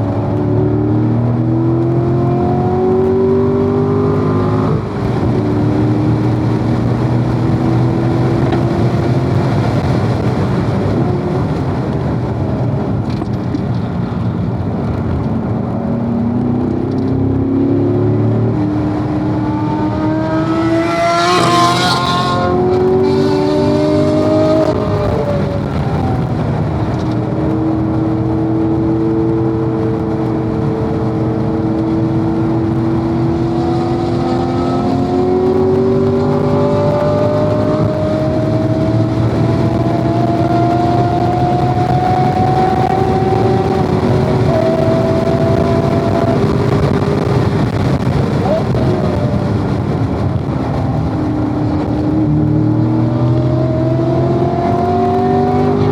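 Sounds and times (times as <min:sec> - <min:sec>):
car engine revving through gears: 0:00.0 - 0:55.9.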